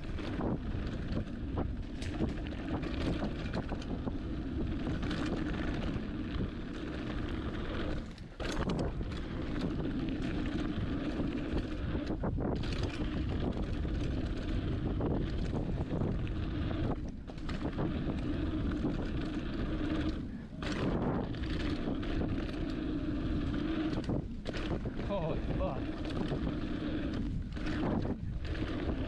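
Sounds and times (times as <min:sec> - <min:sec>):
bike tyres rolling on dirt: 0:00.0 - 0:29.0
wind rushing over microphone: 0:00.0 - 0:29.0.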